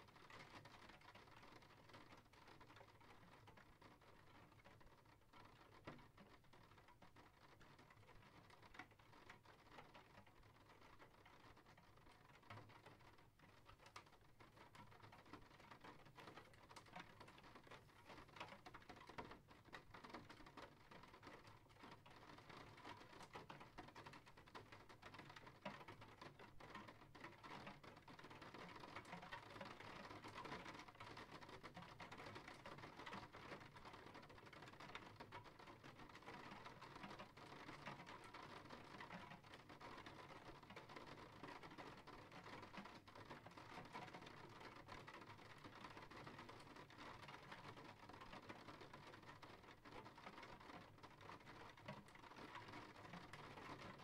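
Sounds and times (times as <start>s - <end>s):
faint steady rain: 0.0s - 54.0s.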